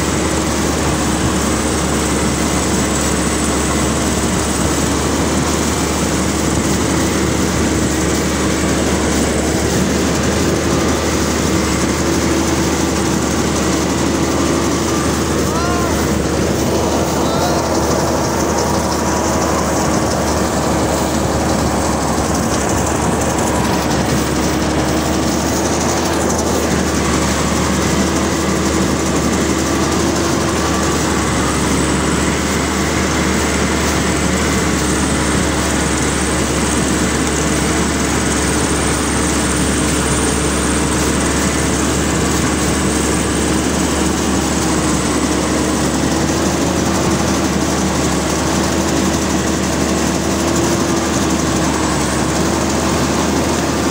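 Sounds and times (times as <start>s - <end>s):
combine harvester drone: 0.0s - 53.9s.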